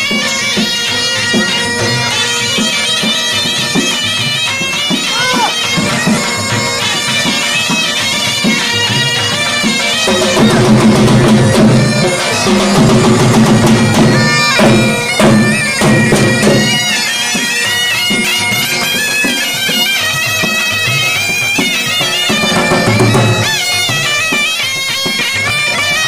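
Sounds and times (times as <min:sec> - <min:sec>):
dhol drumming: 0:00.0 - 0:26.0
reedy wind instrument melody: 0:00.0 - 0:26.0.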